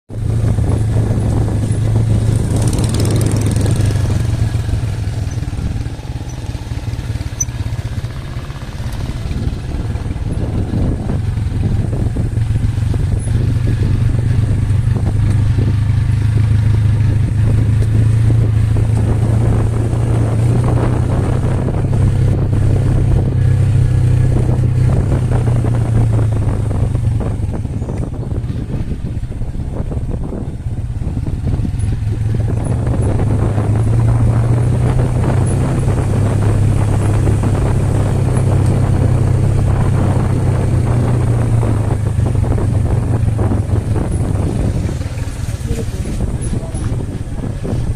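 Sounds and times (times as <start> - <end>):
motorcycle engine running: 0.1 - 47.9.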